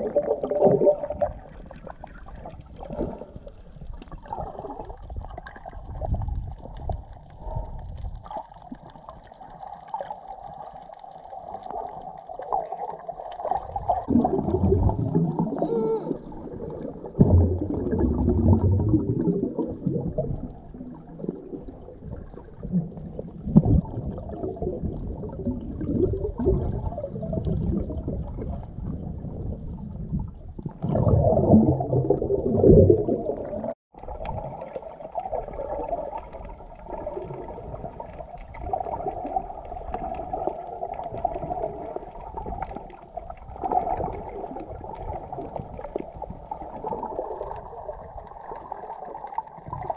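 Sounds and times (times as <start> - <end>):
underwater water surging and gurgling: 0.0 - 49.9.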